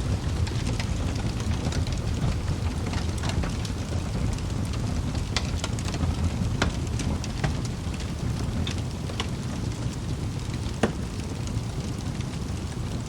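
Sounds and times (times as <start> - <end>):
fire crackling and popping: 0.0 - 13.0
low rumble of flame: 0.0 - 13.0.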